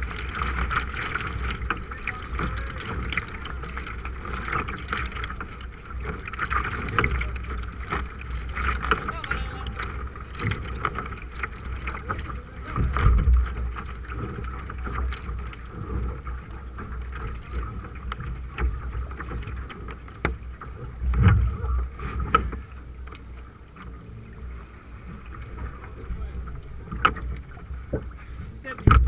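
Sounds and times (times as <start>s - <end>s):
wind rumbling on microphone: 0.0s - 23.2s, 24.1s - 29.0s
paddle strokes in water: 0.0s - 29.0s.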